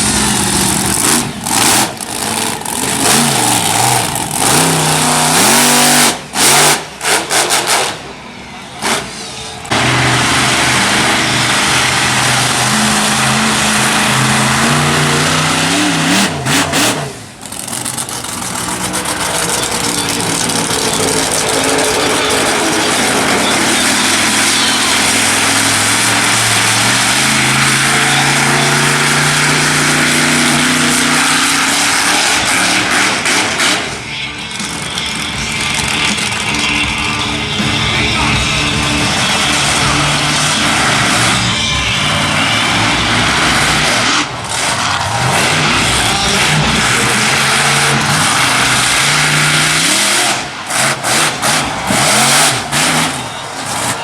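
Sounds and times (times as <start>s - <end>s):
monster truck engine revving: 0.0s - 54.0s.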